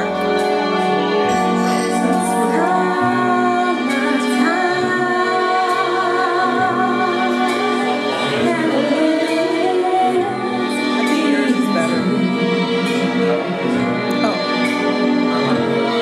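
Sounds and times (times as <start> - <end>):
woman singing into microphone: 0.0 - 13.8
keyboard chords: 0.0 - 16.0.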